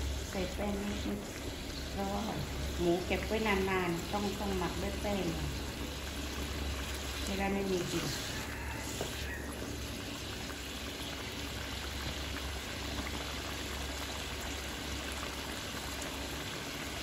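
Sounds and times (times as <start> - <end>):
gas burner low rush: 0.0 - 15.3
curry bubbling at a boil: 0.0 - 17.0.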